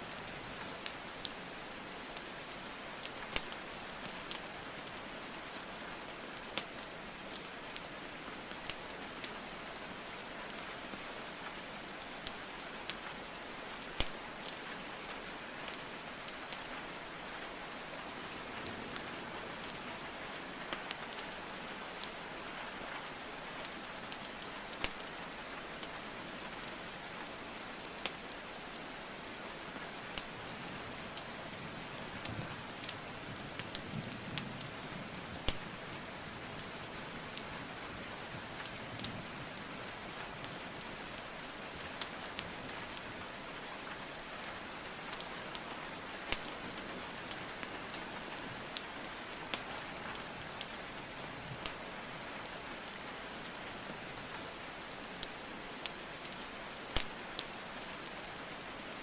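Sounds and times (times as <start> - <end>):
steady rain: 0.0 - 59.0
fire crackling and popping: 0.1 - 11.1, 11.8 - 16.7, 18.3 - 21.4, 23.3 - 34.6, 35.3 - 59.0.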